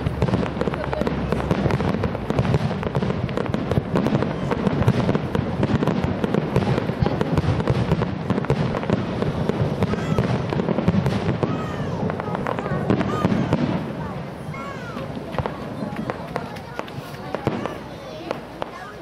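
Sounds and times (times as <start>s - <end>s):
fireworks bursts and crackling: 0.0s - 19.0s.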